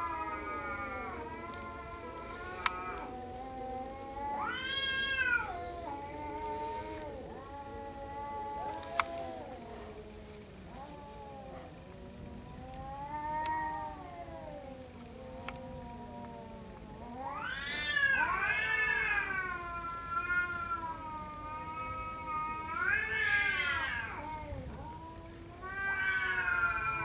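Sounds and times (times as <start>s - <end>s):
cats yowling: 0.0s - 27.0s.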